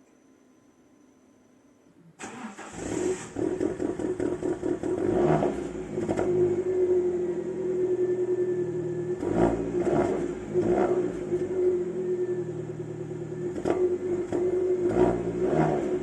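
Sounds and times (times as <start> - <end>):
car engine starting and idling: 2.2 - 16.0
engine revving: 2.2 - 16.0.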